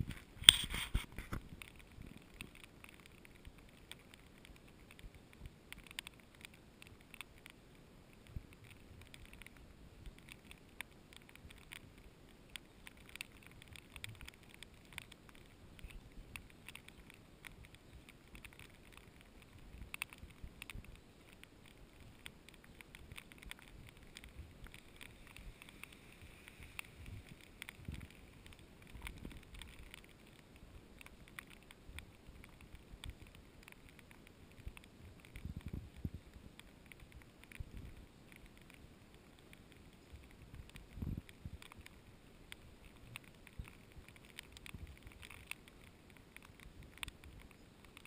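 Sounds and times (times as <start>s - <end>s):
raindrops ticking on camera: 0.0s - 48.0s
soft hiss of rainfall: 0.0s - 48.0s.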